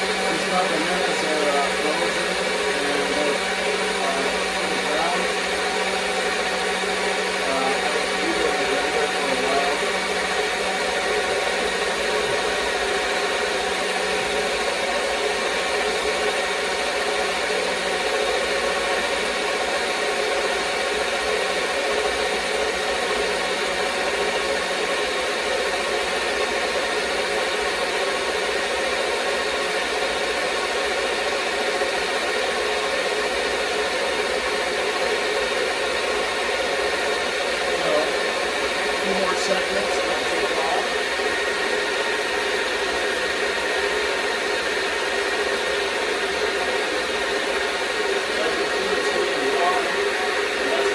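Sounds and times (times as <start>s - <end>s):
blender motor running: 0.0s - 50.9s.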